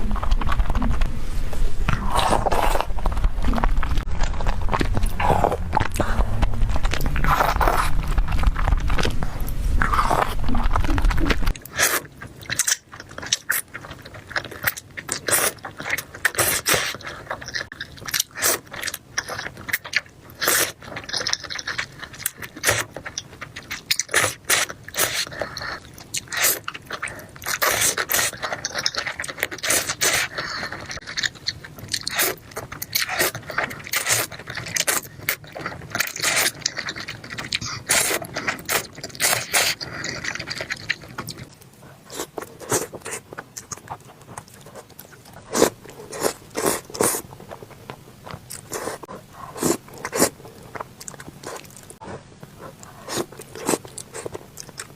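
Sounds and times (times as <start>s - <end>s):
wet chewing and slurping: 1.9s - 54.9s.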